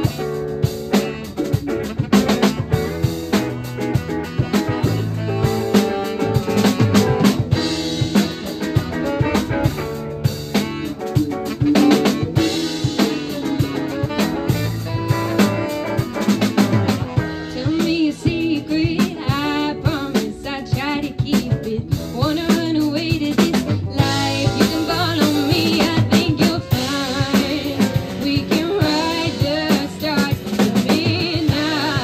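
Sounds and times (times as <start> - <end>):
bass notes: 0.0 - 32.0
drum kit beat: 0.0 - 32.0
electric guitar: 0.0 - 32.0.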